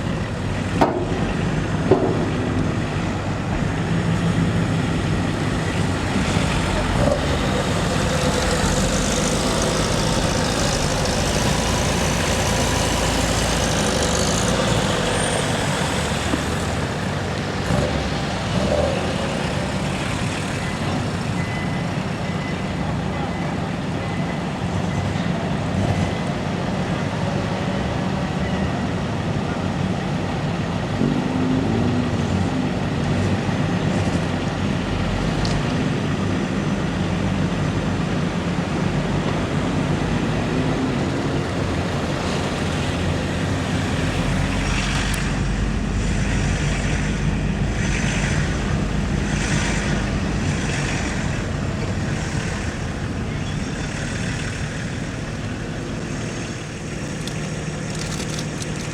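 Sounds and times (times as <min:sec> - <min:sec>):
vehicle engine running: 0:00.0 - 0:22.3, 0:30.9 - 0:58.9
road and deck noise: 0:00.0 - 0:58.9.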